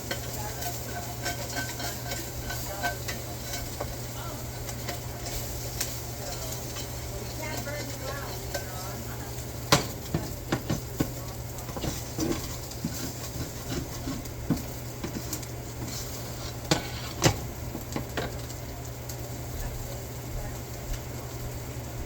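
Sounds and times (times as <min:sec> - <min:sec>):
dishes and utensils clinking: 0:00.0 - 0:18.5
steady low hum: 0:00.0 - 0:22.0.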